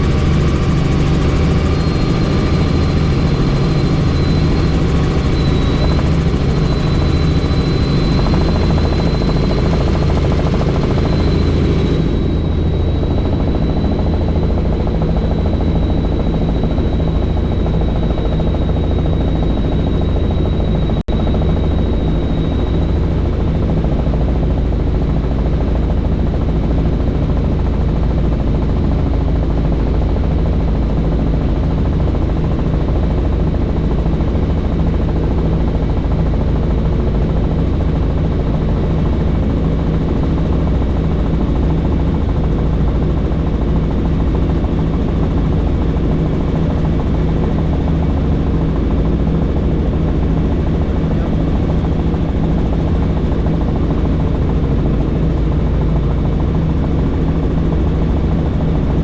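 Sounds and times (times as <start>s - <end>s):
helicopter rotor and engine noise: 0.0s - 59.0s.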